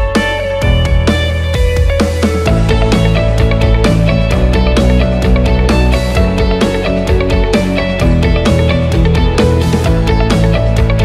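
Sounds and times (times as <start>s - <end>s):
instrumental music with guitar: 0.0s - 11.0s.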